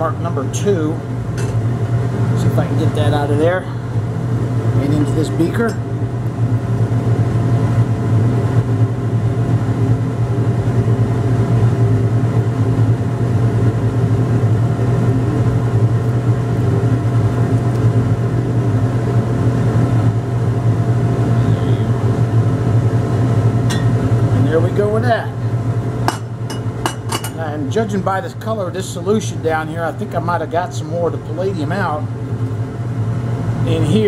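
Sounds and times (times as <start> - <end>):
machine drone with low hum: 0.0 - 34.0.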